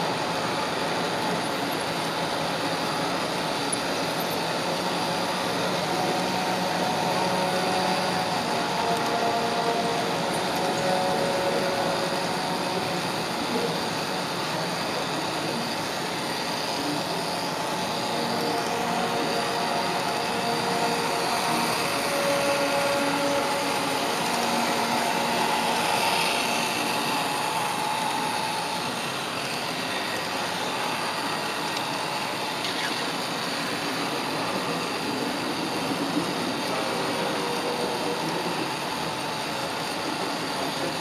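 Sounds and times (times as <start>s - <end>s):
model train motor whirring on rails: 0.0s - 41.0s.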